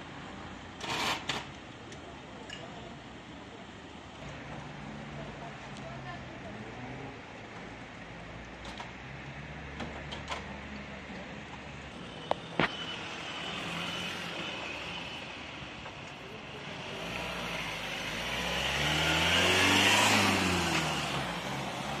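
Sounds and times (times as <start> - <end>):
tyre and road noise: 0.0 - 22.0.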